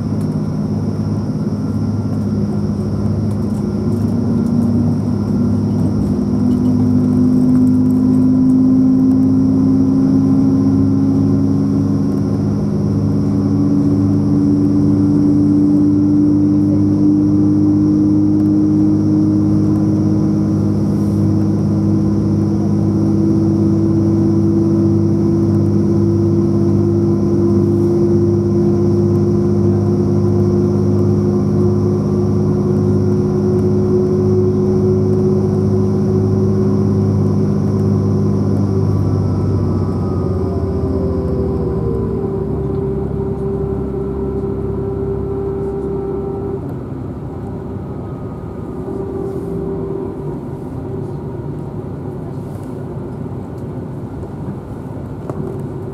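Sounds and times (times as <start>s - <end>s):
diesel train engine drone: 0.0s - 55.9s
rising whine of train: 0.0s - 55.9s.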